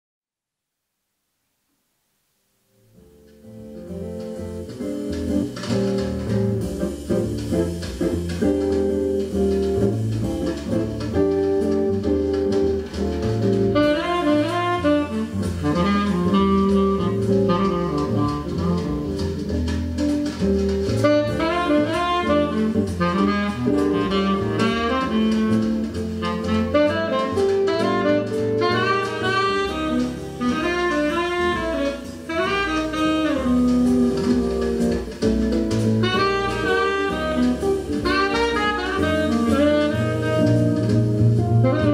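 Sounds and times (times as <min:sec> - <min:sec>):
jazz bass and chords: 0:02.2 - 0:41.9
saxophone melody: 0:05.0 - 0:41.9.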